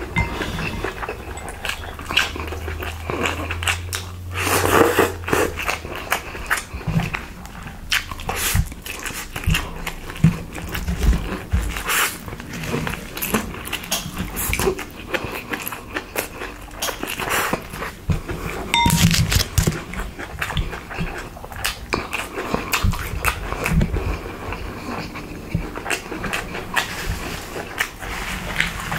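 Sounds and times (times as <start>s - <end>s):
mouth chewing food: 0.0s - 28.9s.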